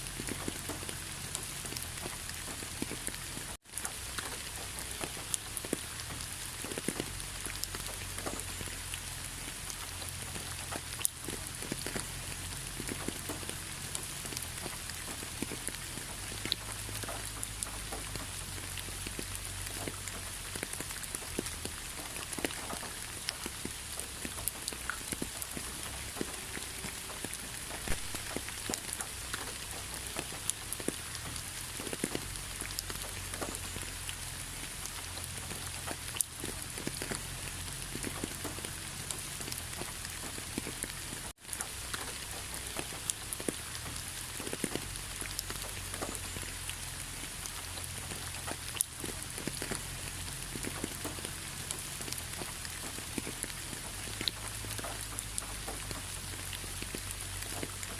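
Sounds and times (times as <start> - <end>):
raindrops ticking close by: 0.0 - 57.9
steady rainfall: 0.0 - 57.9.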